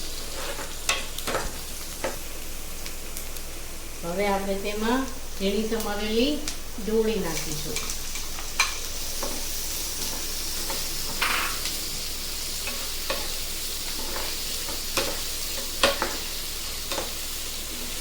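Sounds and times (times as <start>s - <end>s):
onion sizzling in hot oil: 0.0s - 18.0s.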